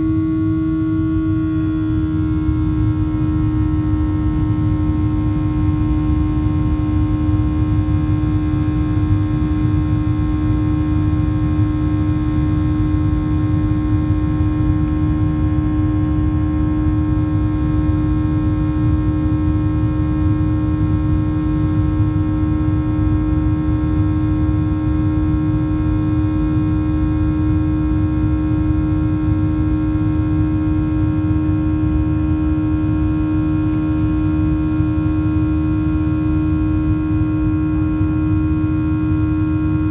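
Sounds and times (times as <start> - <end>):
airplane cabin engine drone: 0.0 - 39.9
faint engine whine: 0.0 - 39.9.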